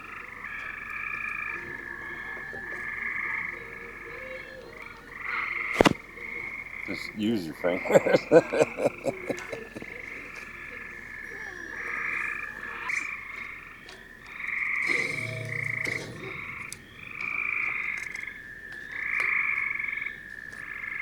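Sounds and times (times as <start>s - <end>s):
frogs calling with pulsed trills: 0.0s - 21.0s.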